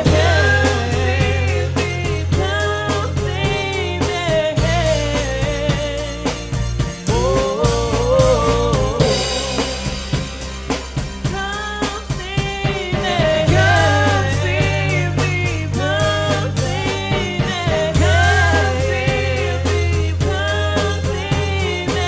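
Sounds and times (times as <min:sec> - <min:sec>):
band playing: 0:00.0 - 0:22.0
drum kit beat: 0:00.0 - 0:22.0.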